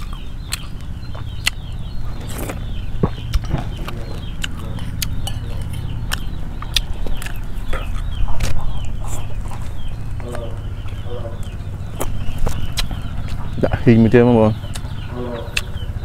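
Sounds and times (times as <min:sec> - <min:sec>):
chickens clucking: 0:00.0 - 0:16.0
steady low rumble: 0:00.0 - 0:16.0.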